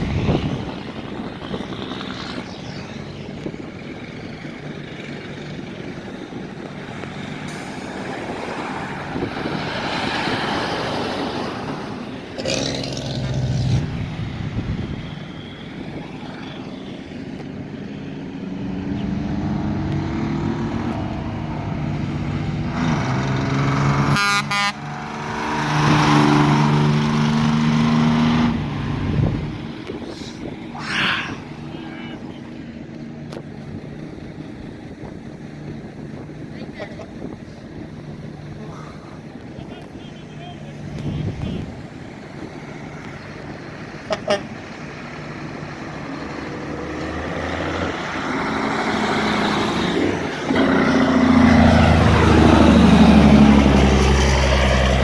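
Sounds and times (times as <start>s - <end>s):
truck engines passing: 0.0s - 55.0s.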